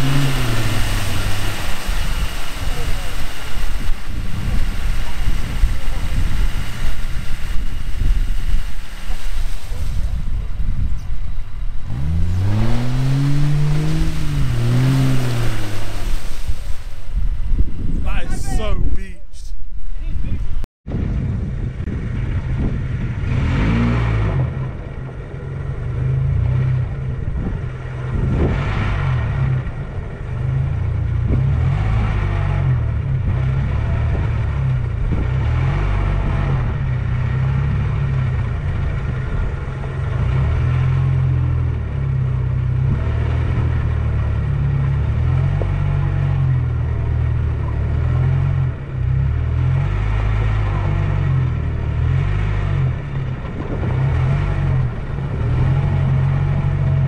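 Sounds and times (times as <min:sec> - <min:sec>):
off-road vehicle engine rumbling: 0:00.0 - 0:57.0.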